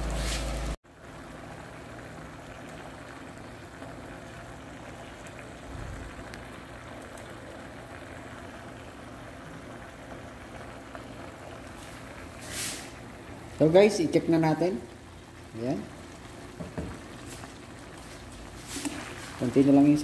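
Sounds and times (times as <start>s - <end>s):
stew bubbling in a frying pan: 0.0s - 20.0s.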